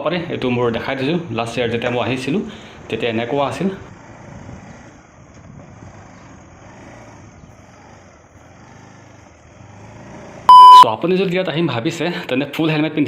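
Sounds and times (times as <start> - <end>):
road noise on dirt road: 0.0 - 13.0
motorcycle engine rumble: 0.2 - 10.8.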